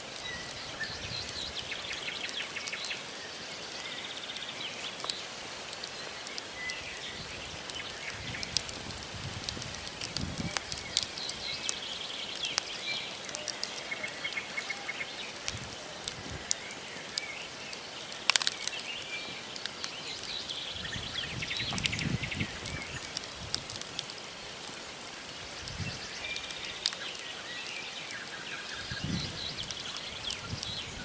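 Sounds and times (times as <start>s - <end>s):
campfire crackling: 0.0s - 31.0s
faint birds chirping: 0.2s - 8.7s, 10.4s - 23.3s, 25.0s - 31.0s.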